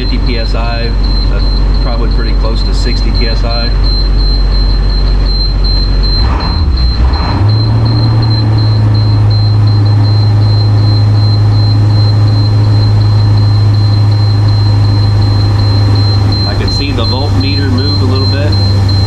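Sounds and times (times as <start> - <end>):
diesel engine idling: 0.0 - 19.0
steady high-pitched tone: 0.0 - 19.0.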